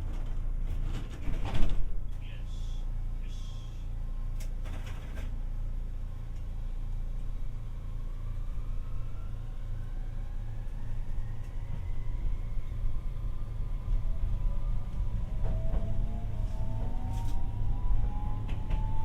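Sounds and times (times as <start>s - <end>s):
tram low rumble: 0.0s - 19.0s.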